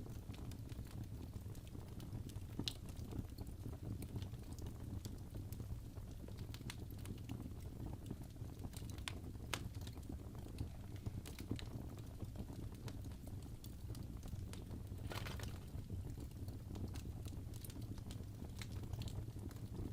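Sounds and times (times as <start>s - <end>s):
low rumble of flames: 0.0s - 19.9s
wood fire crackling and popping: 0.0s - 19.9s.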